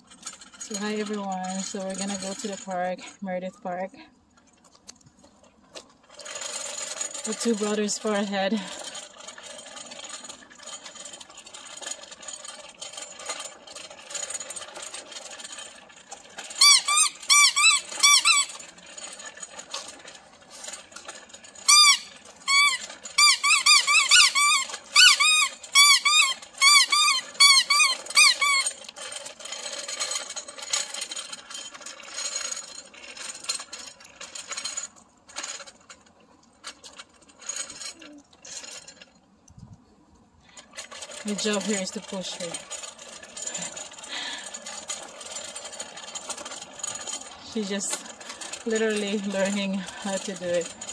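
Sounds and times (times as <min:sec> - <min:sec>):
bicycle squeaking: 0:00.0 - 0:03.8, 0:05.2 - 0:35.9, 0:36.7 - 0:39.2, 0:40.4 - 0:50.9.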